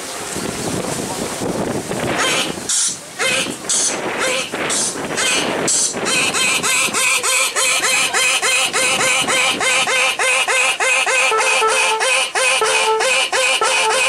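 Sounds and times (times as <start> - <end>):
squeaky quacking sound effects: 2.2 - 14.0.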